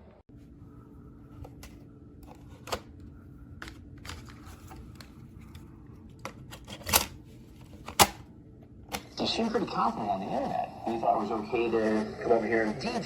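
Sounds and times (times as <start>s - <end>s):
tape hum and hiss: 0.0s - 13.0s.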